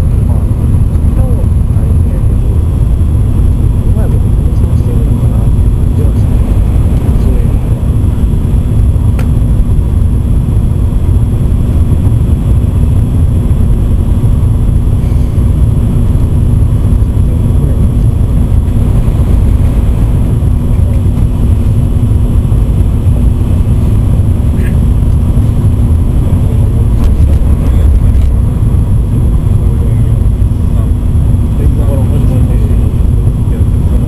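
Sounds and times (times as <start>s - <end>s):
constant hum: 0.0s - 34.0s
train interior low rumble: 0.0s - 34.0s.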